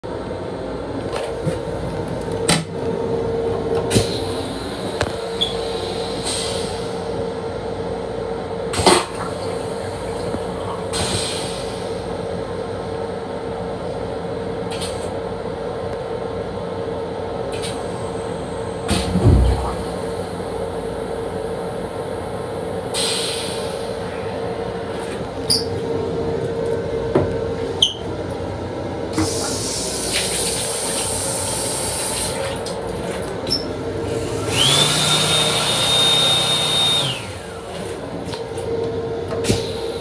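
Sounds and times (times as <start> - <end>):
railcar hum: 0.0 - 34.8, 37.0 - 40.0.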